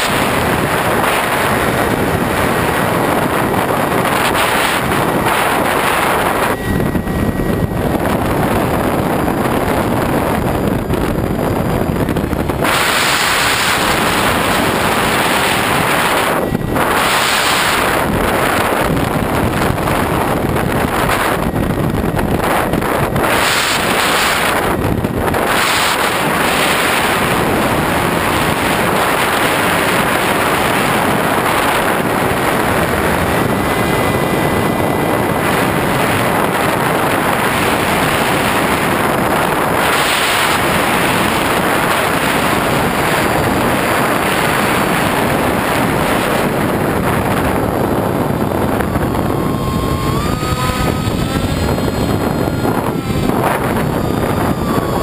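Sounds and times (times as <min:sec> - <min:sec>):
electric motor and propeller: 0:00.0 - 0:55.0
wind rushing over microphone: 0:00.0 - 0:55.0.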